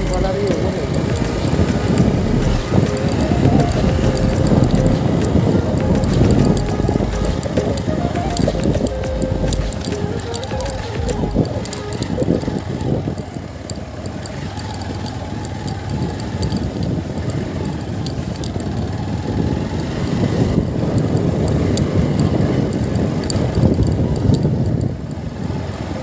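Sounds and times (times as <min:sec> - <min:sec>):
motorcycle engine rumble: 0:00.0 - 0:26.0.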